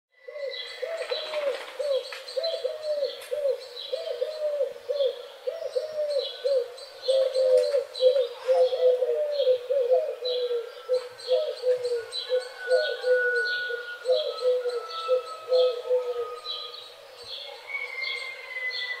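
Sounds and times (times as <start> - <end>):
bird repeating low arched notes: 0.2 - 17.3.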